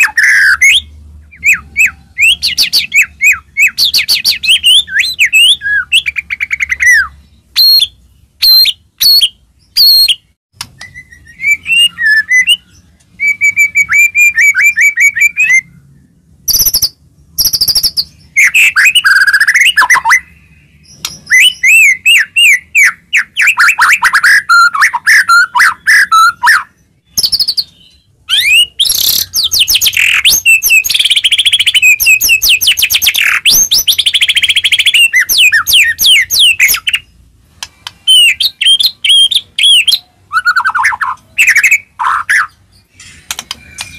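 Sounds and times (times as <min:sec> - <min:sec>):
bird singing fast trills: 0:00.0 - 0:43.9.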